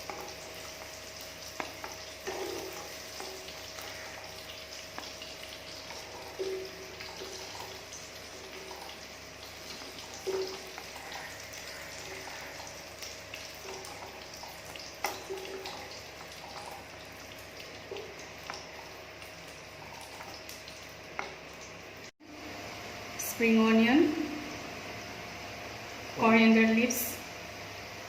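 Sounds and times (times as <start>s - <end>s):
mushrooms sizzling in a pan: 0.0s - 23.2s.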